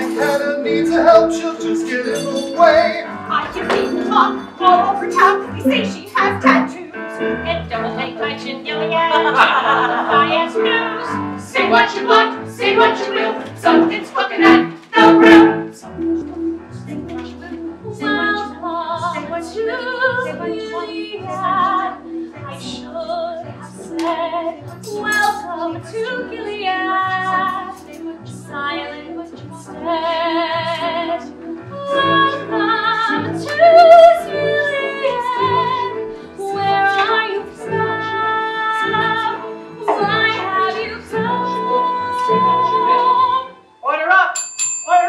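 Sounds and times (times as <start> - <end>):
instrumental accompaniment: 0.0 - 45.0
woman singing with vibrato: 3.2 - 15.9, 16.9 - 43.7.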